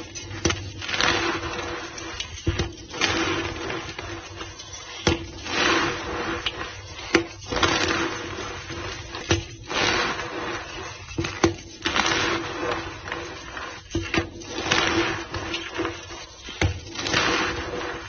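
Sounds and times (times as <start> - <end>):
chalk crunching by hand: 0.6 - 18.0.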